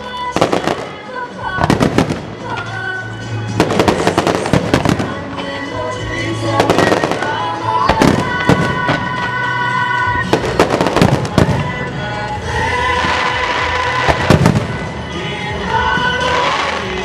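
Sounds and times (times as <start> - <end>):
music with long held notes: 0.0 - 17.0
fireworks bangs and crackles: 0.2 - 17.0.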